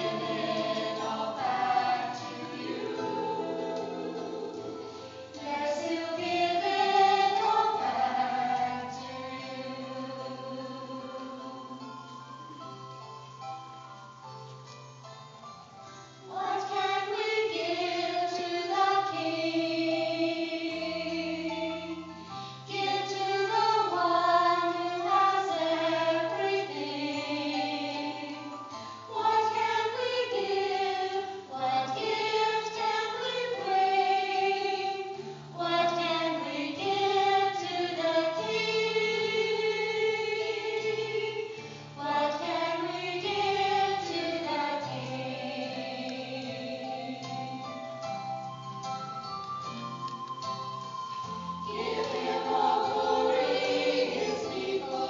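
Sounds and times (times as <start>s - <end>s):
women's ensemble singing: 0.0s - 11.9s, 16.3s - 47.8s, 51.6s - 55.0s
held low accompanying notes: 0.0s - 13.7s, 22.7s - 55.0s.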